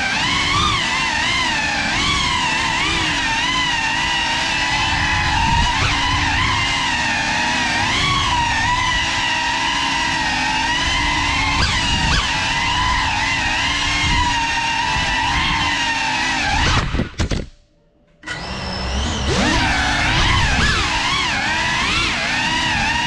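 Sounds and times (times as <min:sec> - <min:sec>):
drone propellers whining: 0:00.0 - 0:17.2, 0:18.2 - 0:23.0.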